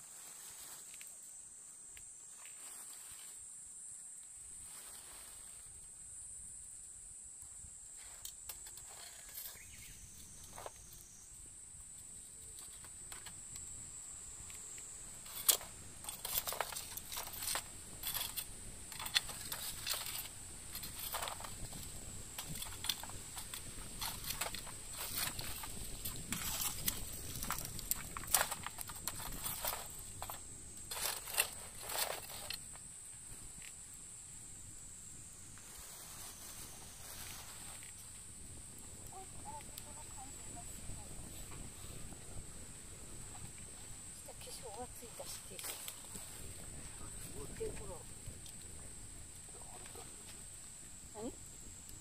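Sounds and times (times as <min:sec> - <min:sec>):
cicadas droning: 0:00.0 - 0:52.0.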